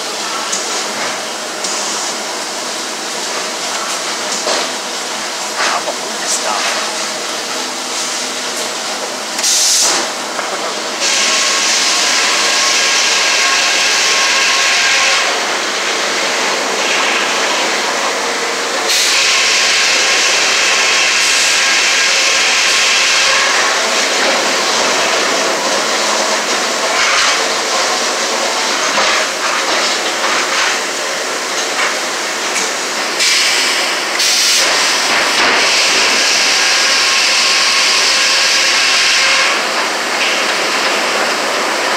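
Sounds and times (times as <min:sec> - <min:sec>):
sawmill machinery din: 0:00.0 - 0:41.9.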